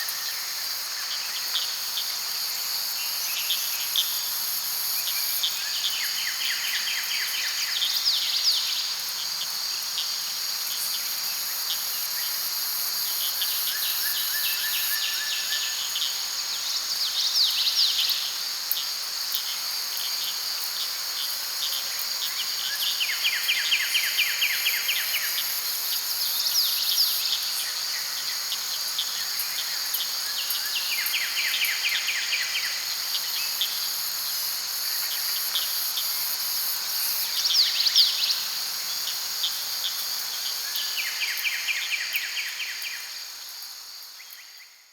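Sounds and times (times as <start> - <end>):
crickets and insects chorus: 0.0 - 44.9.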